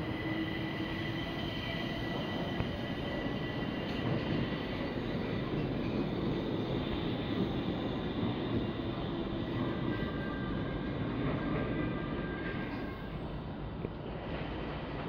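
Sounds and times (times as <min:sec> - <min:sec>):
metro train running on rails: 0:00.0 - 0:15.0.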